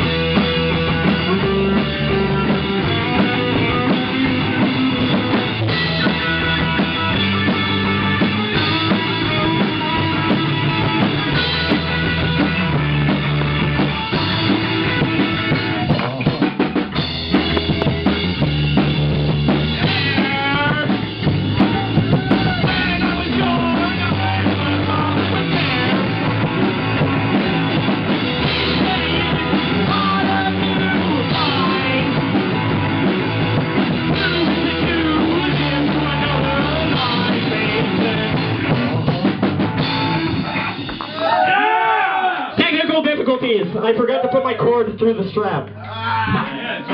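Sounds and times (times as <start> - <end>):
rapid drum hits: 0.0 - 41.1
live rock band playing: 0.0 - 41.5.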